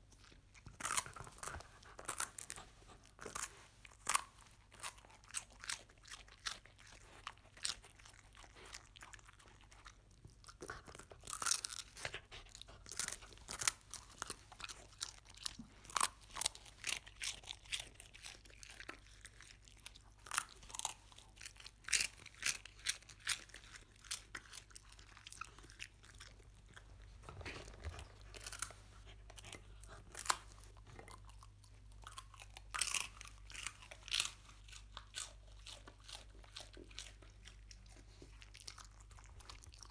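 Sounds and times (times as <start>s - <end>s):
dog chewing crunchy snacks: 0.0s - 39.9s.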